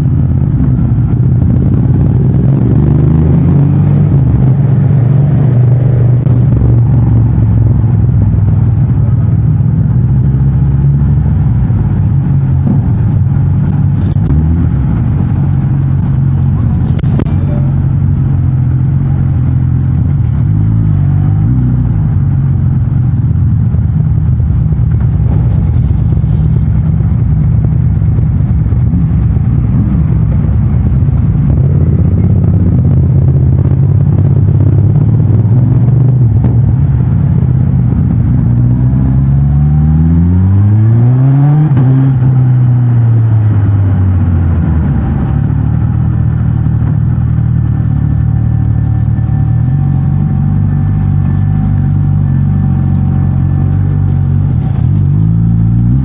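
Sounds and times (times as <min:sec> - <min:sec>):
motorcycle engine running: 0:00.0 - 0:40.9, 0:41.5 - 0:56.0.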